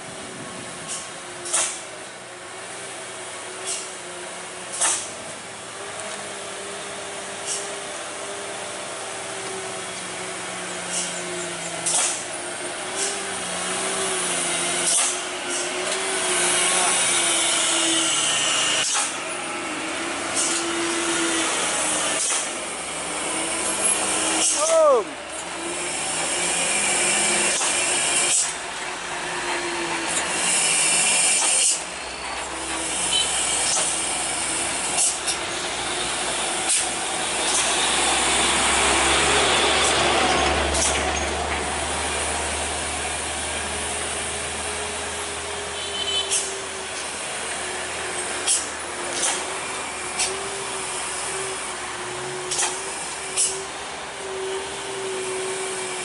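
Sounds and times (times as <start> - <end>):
diesel trucks passing: 0.0 - 56.0.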